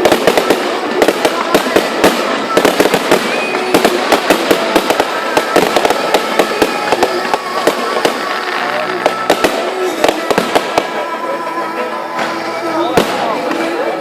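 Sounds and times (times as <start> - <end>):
faint voices: 0.0 - 14.0
fireworks bangs and crackles: 0.0 - 14.0.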